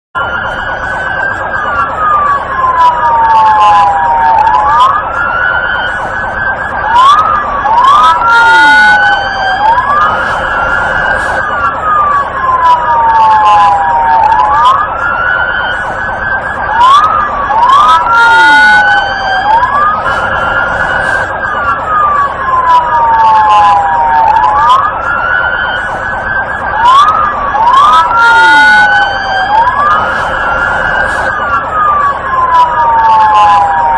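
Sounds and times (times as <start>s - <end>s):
police siren wailing: 0.2s - 33.9s.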